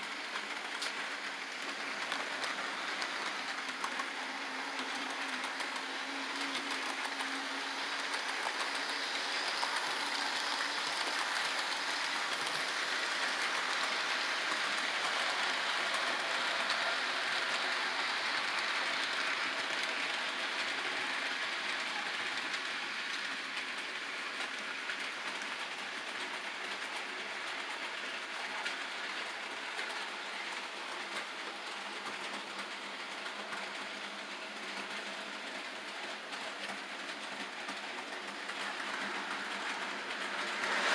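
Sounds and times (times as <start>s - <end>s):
model train motor whirring: 0.1s - 40.9s.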